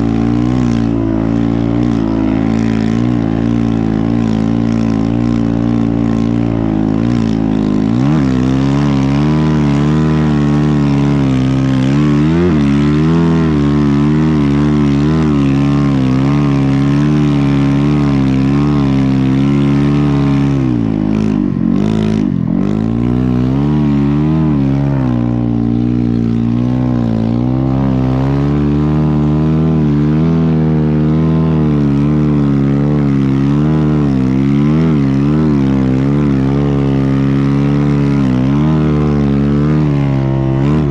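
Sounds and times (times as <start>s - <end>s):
dirt bike engine under load: 0.0s - 40.9s.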